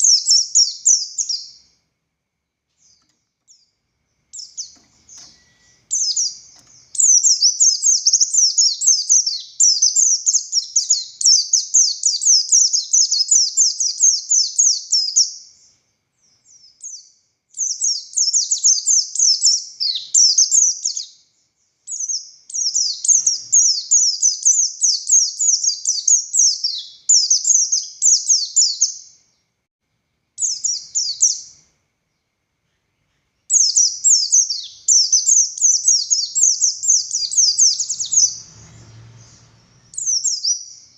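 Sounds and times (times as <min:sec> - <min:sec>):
bird high twittering song: 0:00.0 - 0:01.8, 0:02.7 - 0:29.5, 0:30.4 - 0:40.9.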